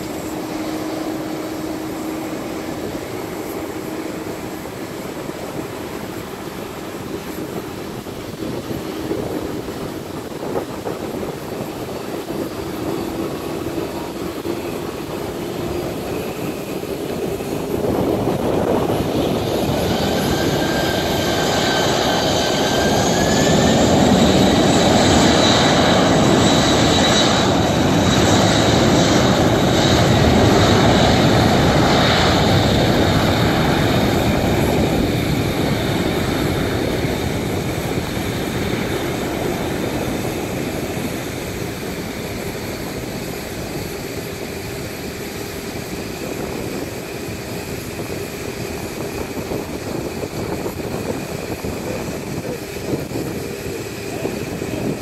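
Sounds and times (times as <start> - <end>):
jet engines with fan whine: 0.0 - 55.0.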